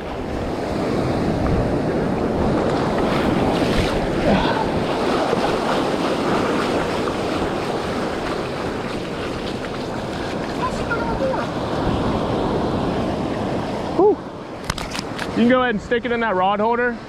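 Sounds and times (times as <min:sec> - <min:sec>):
wind buffeting microphone: 0:00.0 - 0:15.8
ocean surf washing ashore: 0:00.0 - 0:17.0.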